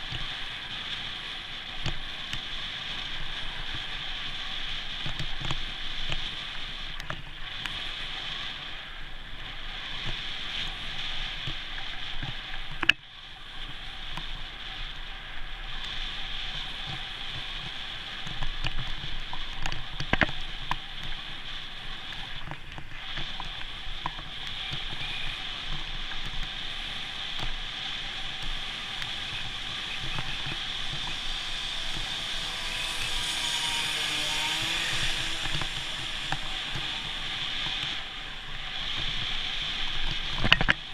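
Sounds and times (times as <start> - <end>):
wind and road noise: 0.0 - 40.9.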